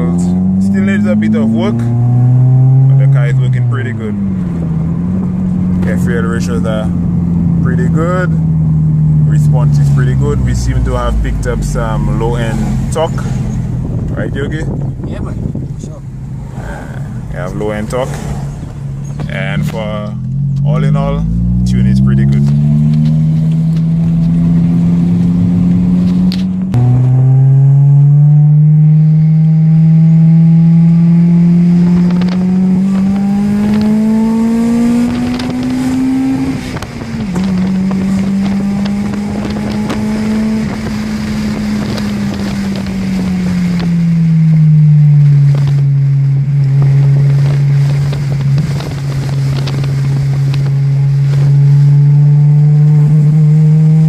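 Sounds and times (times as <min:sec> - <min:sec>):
car engine while driving: 0:00.0 - 0:54.0.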